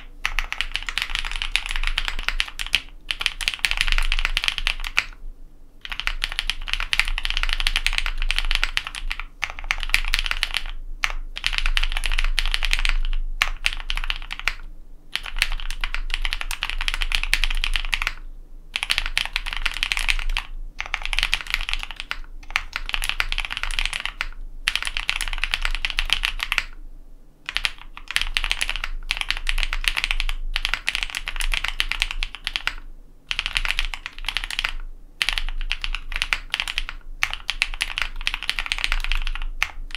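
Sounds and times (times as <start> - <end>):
mechanical keyboard typing: 0.0 - 5.2, 5.8 - 18.2, 18.8 - 26.8, 27.5 - 39.9.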